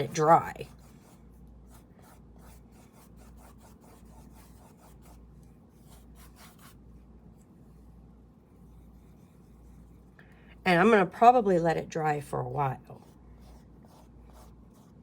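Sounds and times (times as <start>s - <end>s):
paintbrush strokes on canvas: 0.0s - 10.2s, 12.8s - 15.0s
low steady hum: 0.0s - 15.0s.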